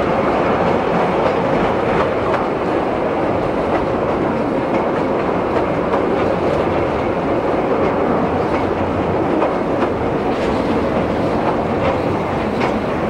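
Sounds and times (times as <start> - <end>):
wheels clicking over rail joints: 0.0 - 13.0
wheels rumbling on rails: 0.0 - 13.0.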